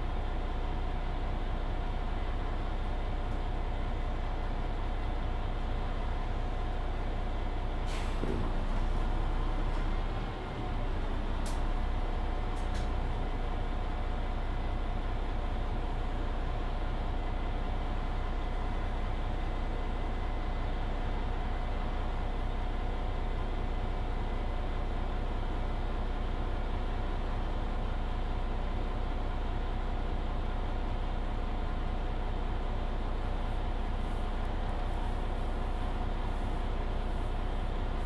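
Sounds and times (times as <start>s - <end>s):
bus interior drivetrain and road noise: 0.0s - 38.0s.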